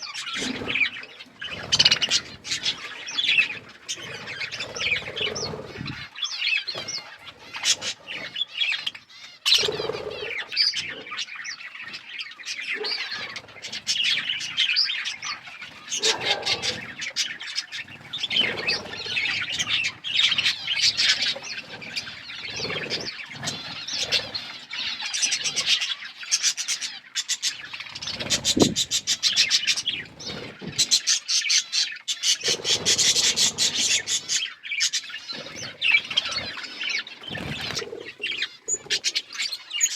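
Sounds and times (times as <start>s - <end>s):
birds chirping and chattering: 0.0s - 39.9s.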